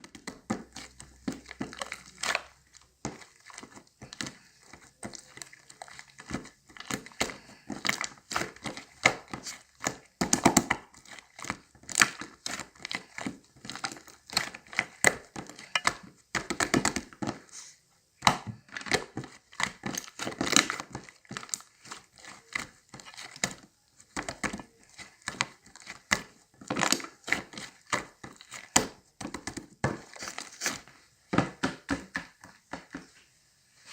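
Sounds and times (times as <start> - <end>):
crinkling and rustling: 0.0 - 17.8, 18.6 - 33.9.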